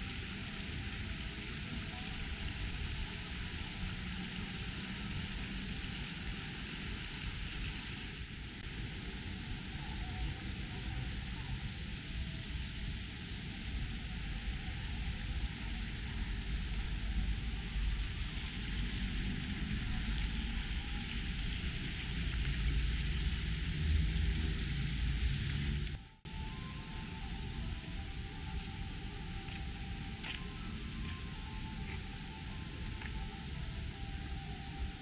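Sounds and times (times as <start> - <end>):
even hiss: 0.0 - 35.0.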